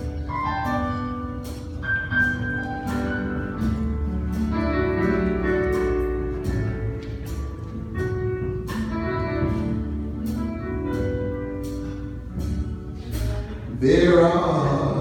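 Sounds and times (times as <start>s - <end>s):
sustained keyboard chords: 0.0s - 15.0s.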